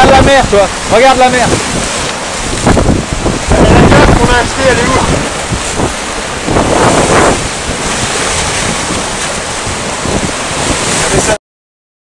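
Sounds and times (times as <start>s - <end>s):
surf breaking against rocks: 0.0s - 11.4s
wind buffeting microphone: 0.0s - 11.4s.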